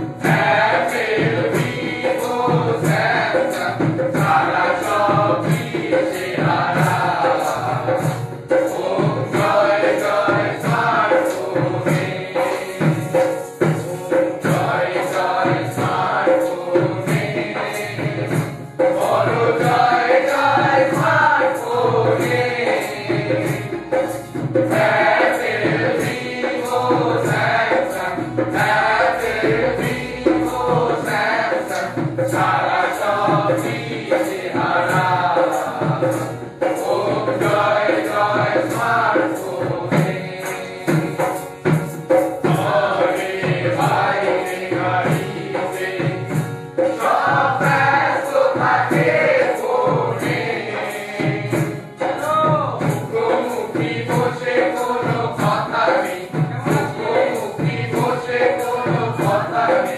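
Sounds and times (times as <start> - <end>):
group of voices singing: 0.0 - 59.9
percussive beat: 0.0 - 59.9.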